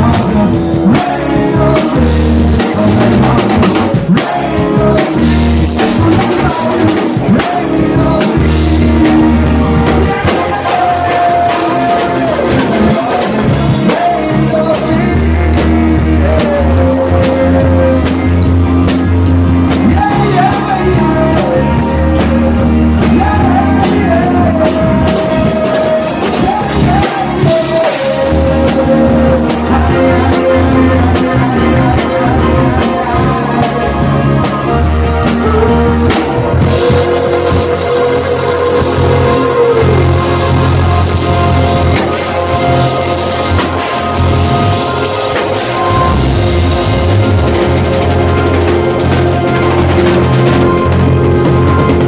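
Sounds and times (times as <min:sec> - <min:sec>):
bass guitar: 0:00.0 - 0:52.0
drum kit beat: 0:00.0 - 0:52.0
person singing: 0:00.0 - 0:52.0.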